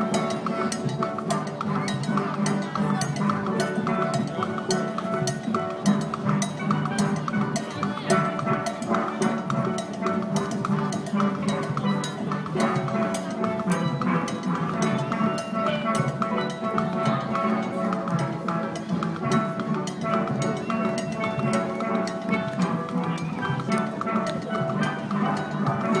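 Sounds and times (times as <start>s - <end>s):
drums keeping steady beat: 0.0s - 26.0s.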